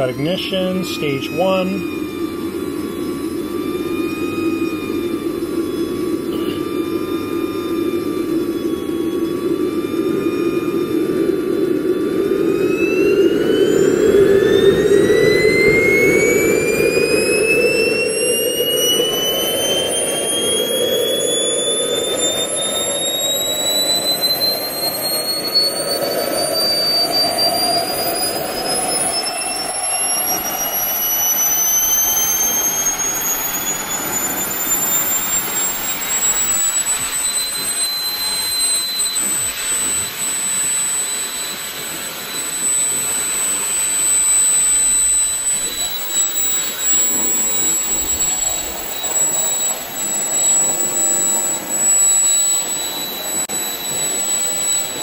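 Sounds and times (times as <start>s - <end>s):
jet turbine spooling up: 0.0s - 55.0s.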